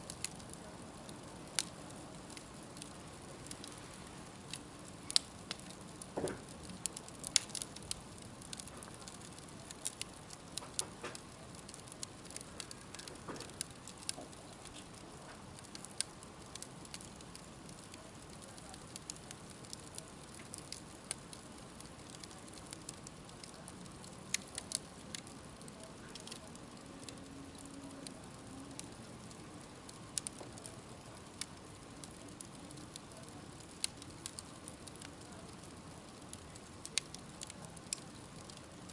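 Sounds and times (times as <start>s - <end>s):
campfire crackling and hissing: 0.0s - 38.9s.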